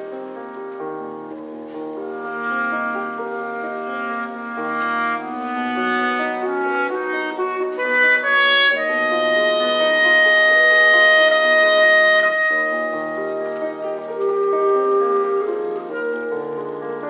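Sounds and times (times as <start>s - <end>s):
clarinet: 0.0s - 17.0s
piano: 0.0s - 17.0s
basset horn: 1.7s - 17.0s.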